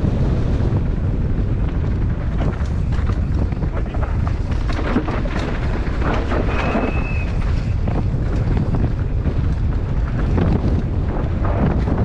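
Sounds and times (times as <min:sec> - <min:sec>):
bike rattling and knocking: 0:00.0 - 0:12.0
wind buffeting microphone: 0:00.0 - 0:12.0.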